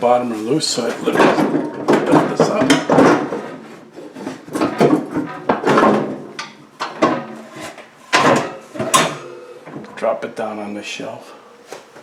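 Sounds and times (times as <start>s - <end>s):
plastic fridge parts scraping and knocking: 0.3s - 10.1s.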